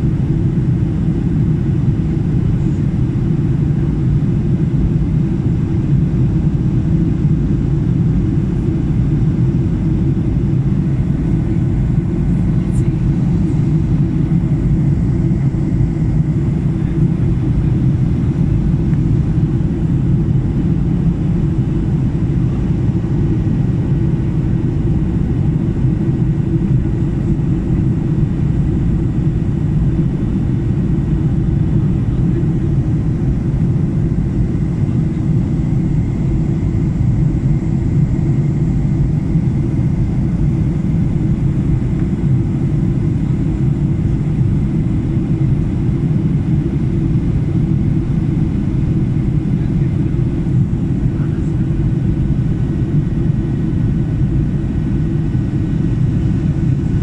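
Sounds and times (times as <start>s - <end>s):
faint engine whine: 0.0s - 57.0s
jet engine cabin rumble: 0.0s - 57.0s.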